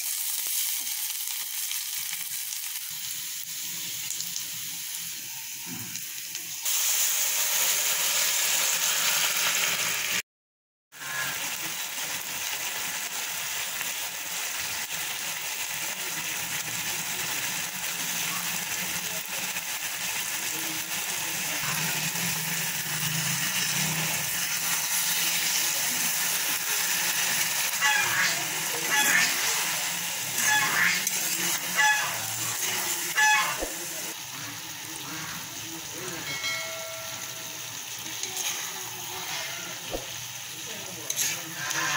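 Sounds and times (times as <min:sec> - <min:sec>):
meat sizzling in oil: 0:00.0 - 0:10.2, 0:10.9 - 0:41.9.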